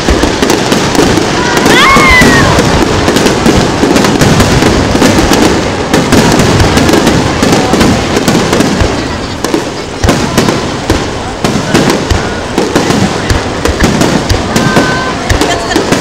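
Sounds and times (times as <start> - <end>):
firework crackles: 0.0 - 16.0
fireworks bursting: 0.0 - 16.0.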